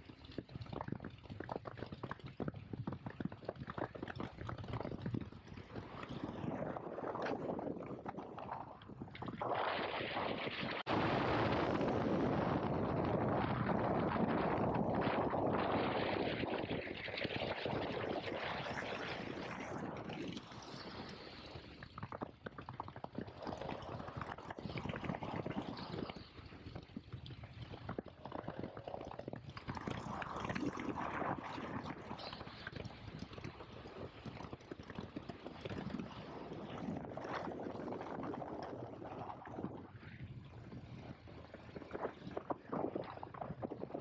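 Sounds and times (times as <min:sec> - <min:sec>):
wind noise on microphone: 0:00.0 - 0:44.0.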